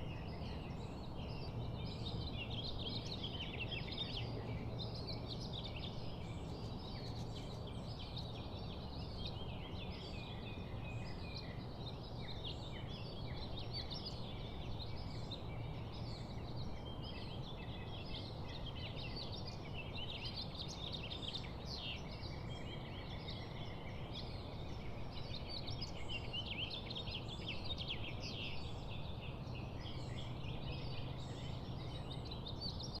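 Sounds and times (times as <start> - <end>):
low background noise: 0.0 - 33.0
small birds chirping: 0.0 - 33.0.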